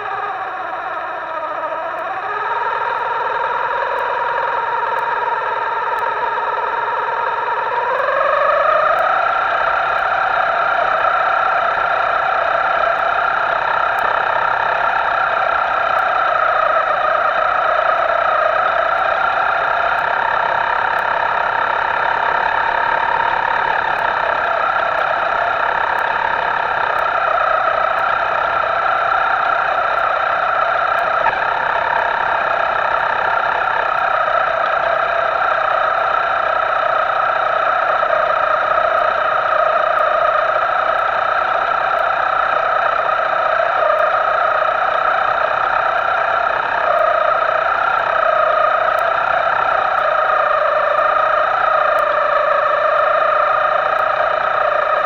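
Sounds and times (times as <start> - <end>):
electric motor whine: 0.0 - 55.0.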